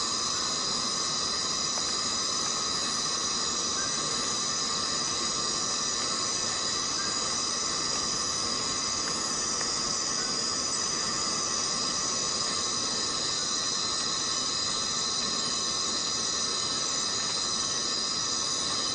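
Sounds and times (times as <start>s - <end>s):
cicadas buzzing: 0.0s - 18.9s.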